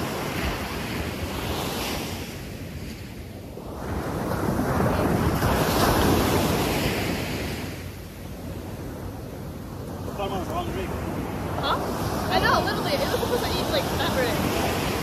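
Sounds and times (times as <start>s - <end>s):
ocean surf breaking on beach: 0.0s - 15.0s
wind buffeting microphone: 0.0s - 15.0s.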